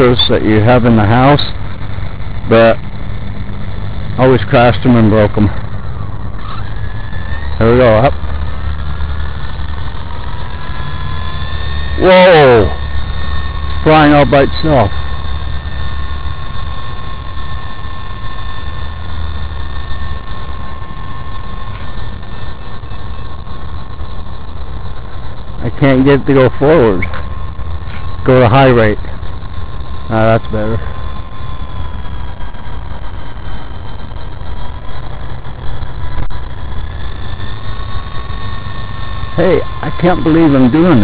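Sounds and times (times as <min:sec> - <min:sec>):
electric motor whine: 0:00.0 - 0:41.0
low rumble: 0:00.0 - 0:41.0
rotor whirring: 0:00.0 - 0:41.0.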